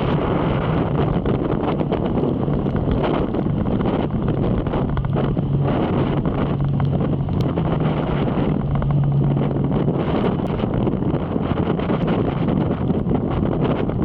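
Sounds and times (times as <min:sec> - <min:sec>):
motorcycle engine humming: 0:00.0 - 0:14.0
wind buffeting microphone: 0:00.0 - 0:14.0.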